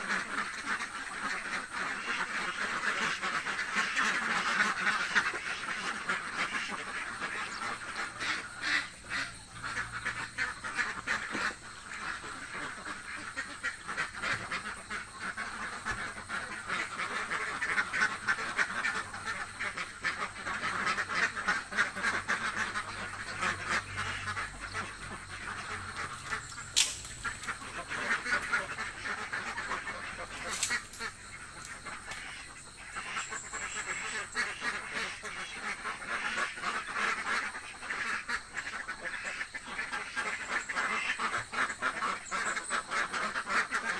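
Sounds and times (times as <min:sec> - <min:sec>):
ducks quacking: 0:00.0 - 0:43.9.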